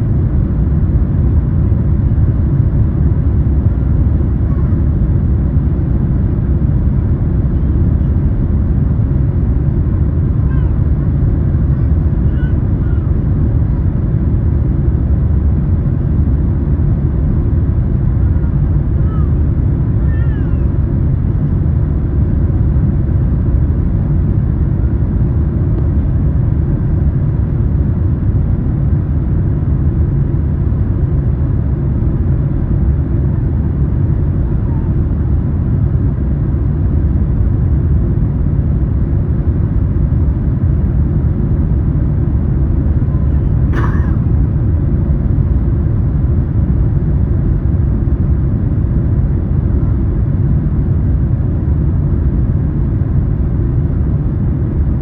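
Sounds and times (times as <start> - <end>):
airliner engine rumble: 0.0 - 55.0.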